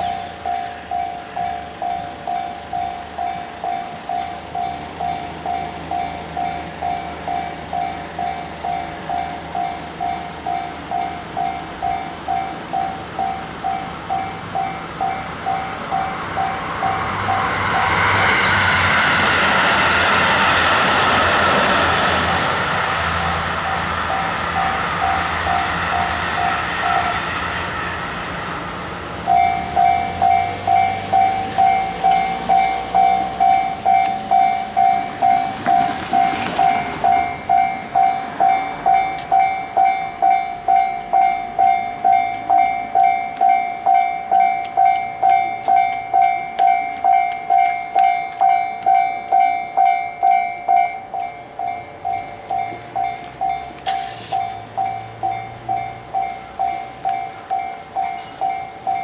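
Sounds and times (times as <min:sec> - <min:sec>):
level crossing warning bell: 0:00.0 - 0:19.4, 0:21.6 - 0:28.2, 0:29.0 - 0:59.0
train rushing rail noise: 0:00.0 - 0:59.0.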